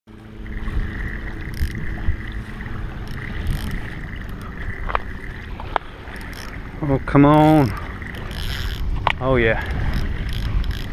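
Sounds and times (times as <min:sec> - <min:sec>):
boat motor rumbling: 0:00.1 - 0:10.9
wind noise on microphone: 0:00.5 - 0:06.5, 0:07.7 - 0:10.9.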